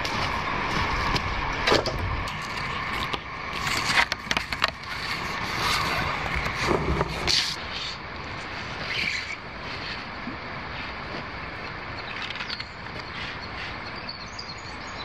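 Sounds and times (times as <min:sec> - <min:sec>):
background drone: 0:00.0 - 0:15.0.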